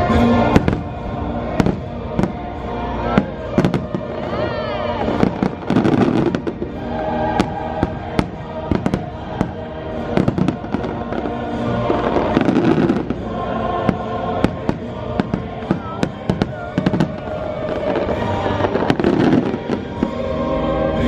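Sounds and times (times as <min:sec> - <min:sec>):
fireworks bursting and crackling: 0:00.0 - 0:21.0
music with choral chords: 0:00.0 - 0:21.0.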